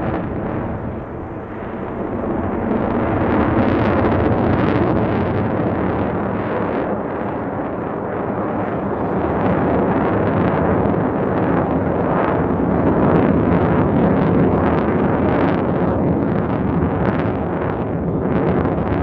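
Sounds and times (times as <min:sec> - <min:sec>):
jet flying overhead: 0:00.0 - 0:19.0.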